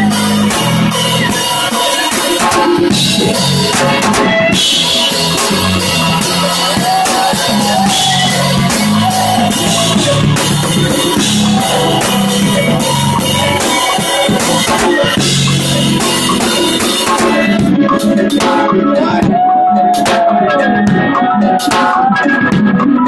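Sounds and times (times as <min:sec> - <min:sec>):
drum kit: 0:00.0 - 0:23.0
electric keyboards: 0:00.0 - 0:23.0
low bass line: 0:02.7 - 0:21.6.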